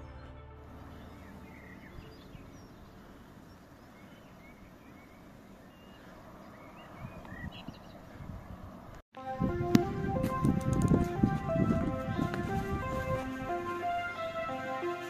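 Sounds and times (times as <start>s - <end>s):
songbirds chirping: 0.0s - 9.0s, 11.0s - 15.0s.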